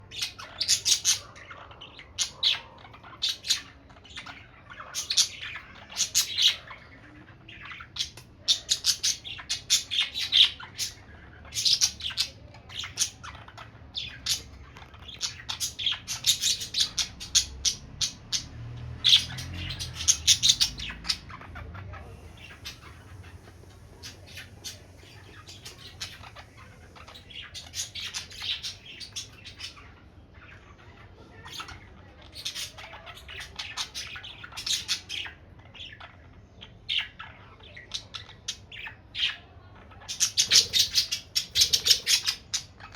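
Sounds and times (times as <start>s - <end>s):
budgerigar chattering: 0.0s - 42.9s.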